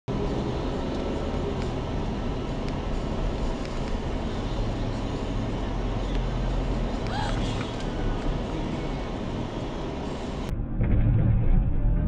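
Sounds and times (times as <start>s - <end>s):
car engine and road rumble: 0.1s - 10.8s.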